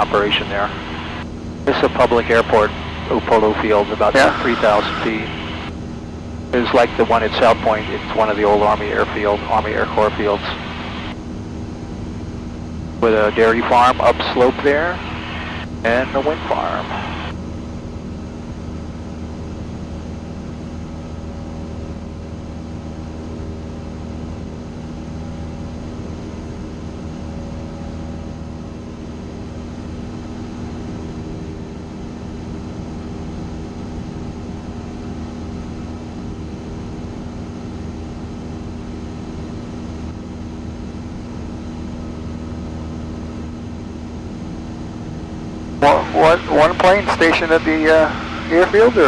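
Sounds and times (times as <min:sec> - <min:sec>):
propeller plane engine drone: 0:00.0 - 0:49.0.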